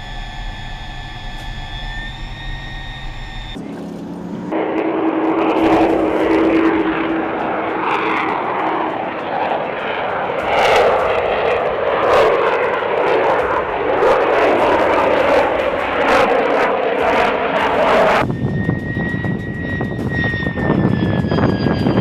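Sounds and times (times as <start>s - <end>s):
aircraft engine rushing noise: 0.0s - 22.0s
steady hum: 0.0s - 22.0s.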